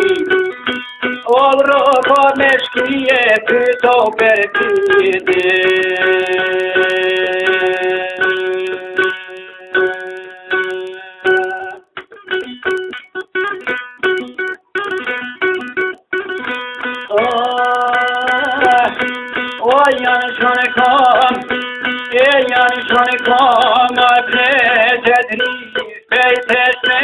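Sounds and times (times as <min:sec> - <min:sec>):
plucked string instrument melody: 0:00.0 - 0:27.0.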